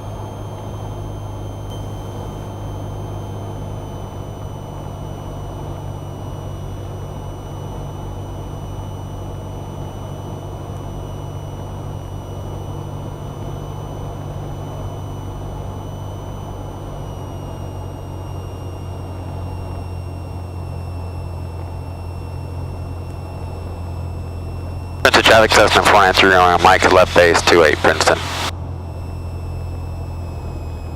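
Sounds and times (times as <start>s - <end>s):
light aircraft engine droning: 0.0s - 30.9s
thin high whine: 0.1s - 10.6s, 13.4s - 30.9s.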